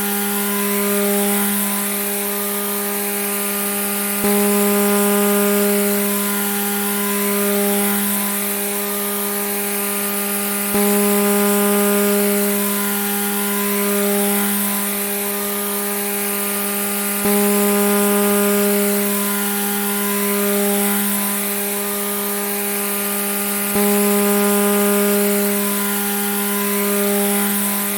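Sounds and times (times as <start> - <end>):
grass trimmer buzzing: 0.0 - 27.9.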